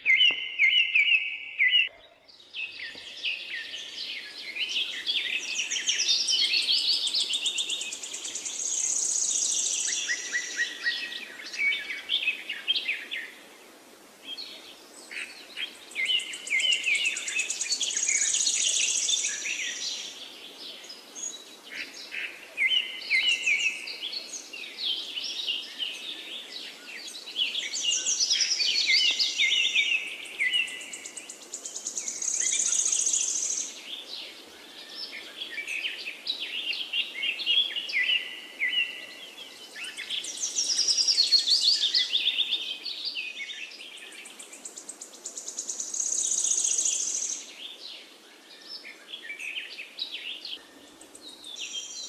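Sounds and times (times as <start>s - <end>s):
birds chirping and trilling: 0.0s - 13.5s, 14.2s - 52.0s.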